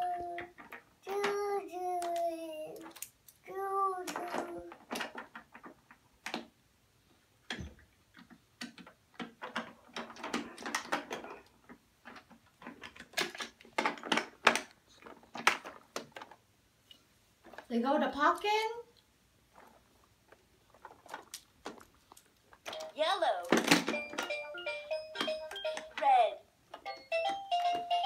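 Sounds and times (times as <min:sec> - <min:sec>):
plastic toy cars clattering: 0:00.0 - 0:06.6, 0:07.5 - 0:16.4, 0:19.5 - 0:28.0.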